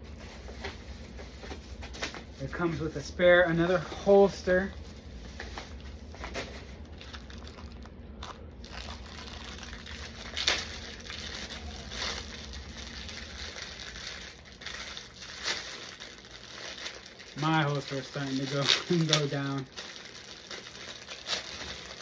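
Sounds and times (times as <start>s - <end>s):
packaging crinkling: 0.2s - 22.0s.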